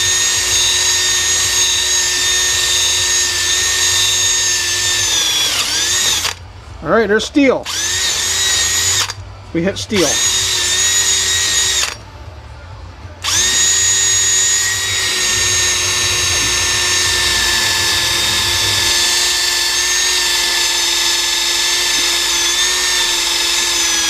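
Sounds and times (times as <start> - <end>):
electric drill whining: 0.0 - 6.4, 7.6 - 9.2, 9.9 - 12.0, 13.2 - 24.0.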